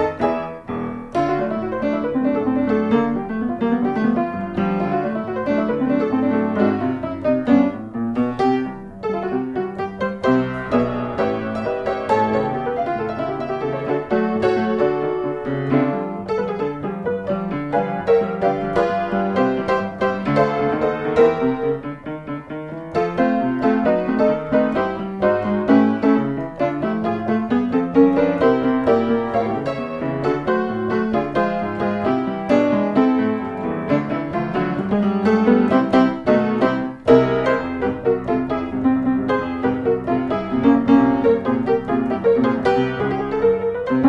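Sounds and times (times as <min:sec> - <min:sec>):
piano music: 0:00.0 - 0:44.0.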